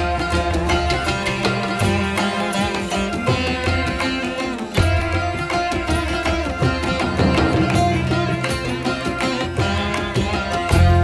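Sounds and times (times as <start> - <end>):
indian classical instrumental music: 0.0 - 11.0
plucked sitar: 0.0 - 11.0.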